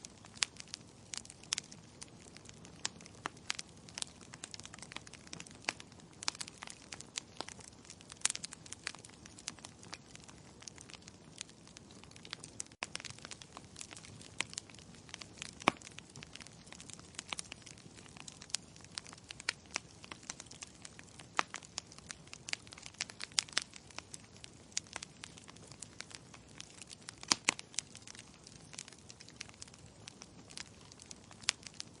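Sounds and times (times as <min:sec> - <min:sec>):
logs crackling and popping: 0:00.0 - 0:32.0.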